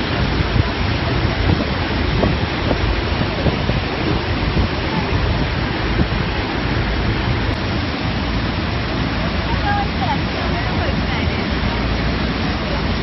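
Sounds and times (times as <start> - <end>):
waterfall roaring: 0.0 - 13.0
wind buffeting microphone: 0.0 - 13.0.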